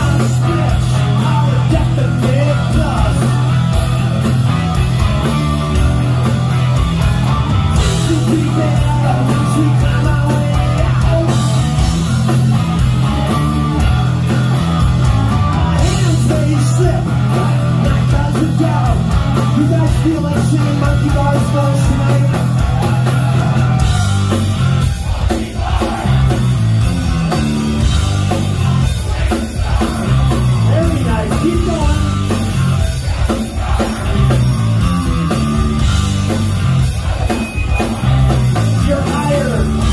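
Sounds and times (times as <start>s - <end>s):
hard rock band playing live: 0.0s - 39.9s.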